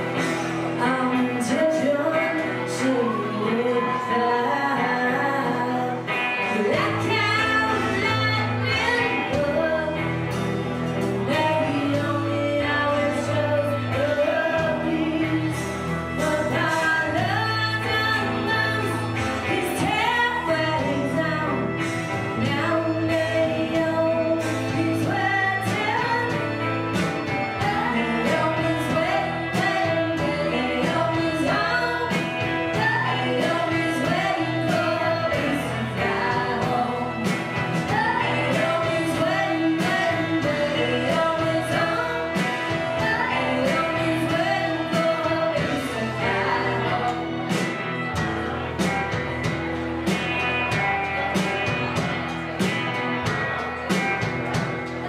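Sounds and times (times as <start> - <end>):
electric guitars: 0.0 - 55.0
woman singing: 0.1 - 48.0.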